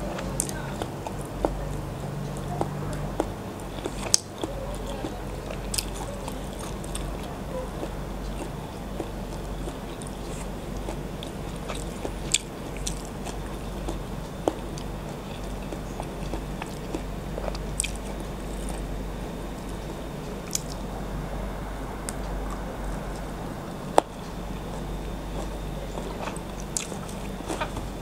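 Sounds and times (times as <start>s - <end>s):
steady low hum: 0.0s - 28.0s
wet chewing mouth clicks: 0.1s - 18.9s, 19.5s - 20.8s, 23.9s - 28.0s.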